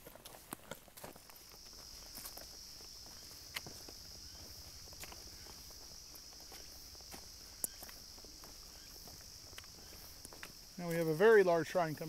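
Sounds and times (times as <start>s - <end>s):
footsteps on dirt trail: 0.0s - 12.0s
insects buzzing: 0.0s - 12.0s.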